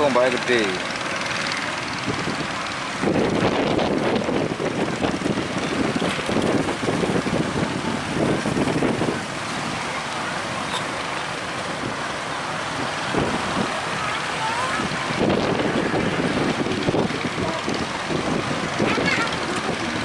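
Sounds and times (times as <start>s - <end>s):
gusty wind buffeting microphone: 0.0s - 20.0s
steady rushing background: 0.0s - 20.0s.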